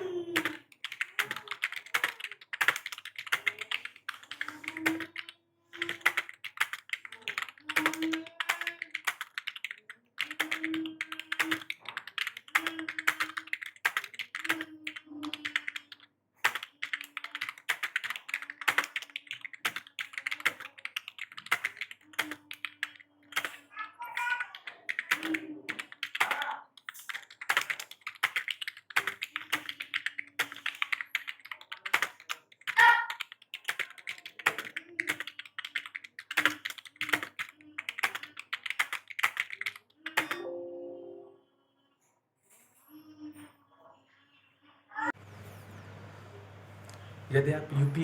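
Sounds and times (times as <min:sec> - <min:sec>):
fast typing on keyboard: 0:00.1 - 0:40.4.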